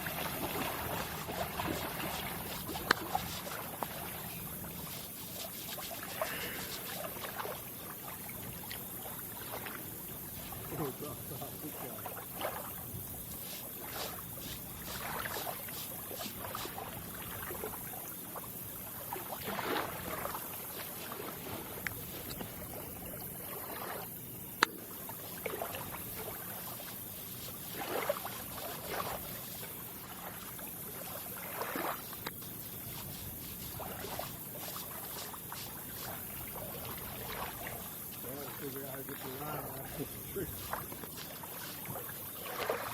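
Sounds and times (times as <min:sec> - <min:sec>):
water lapping and splashing: 0:00.0 - 0:42.9.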